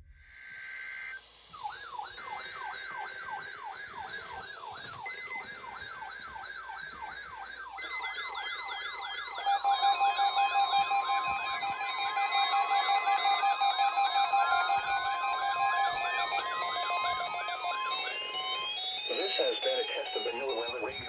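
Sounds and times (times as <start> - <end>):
fainter higher siren: 0.1 - 21.0
electronic siren yelping: 0.3 - 21.0
electronic tones: 0.4 - 21.0.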